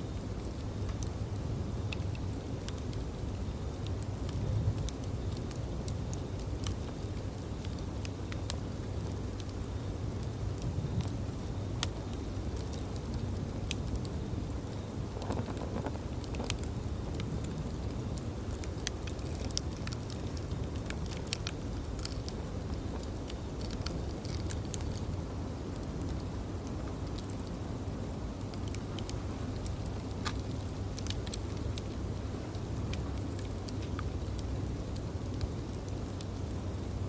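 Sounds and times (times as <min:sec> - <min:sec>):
bonfire crackling: 0:00.0 - 0:37.0.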